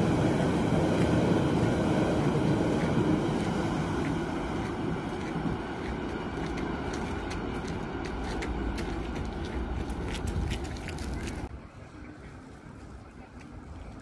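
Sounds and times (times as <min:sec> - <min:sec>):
electric train rumbling on rails: 0:00.0 - 0:14.0.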